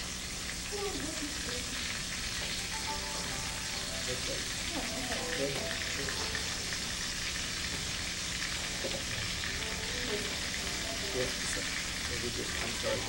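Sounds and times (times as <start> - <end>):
spring rolls sizzling in oil: 0.0 - 13.0.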